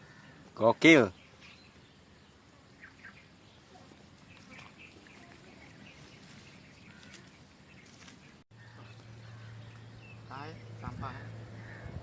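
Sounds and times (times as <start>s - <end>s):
bird chirps: 1.0s - 12.0s.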